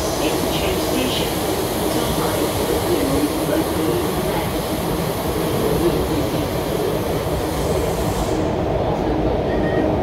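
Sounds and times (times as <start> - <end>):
train wheels rumbling: 0.0 - 9.4.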